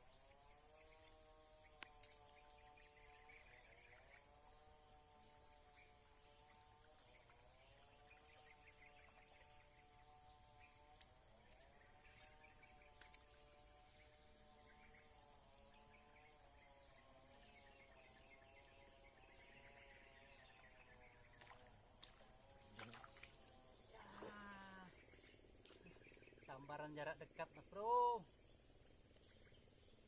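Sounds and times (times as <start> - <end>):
faint wavering hum: 0.0 - 30.0.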